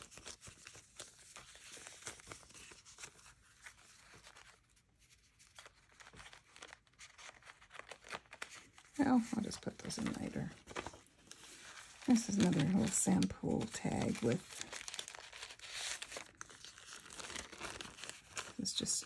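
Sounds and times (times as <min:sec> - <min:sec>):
paper rustling: 0:00.0 - 0:19.0.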